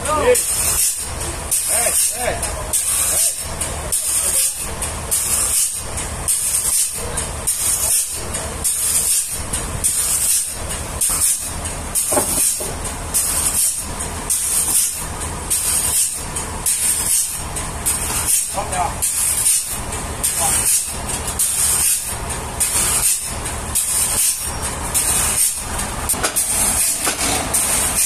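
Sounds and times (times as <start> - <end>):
hissing bursts: 0.0 - 28.0
sawmill machinery rumbling: 0.0 - 28.0.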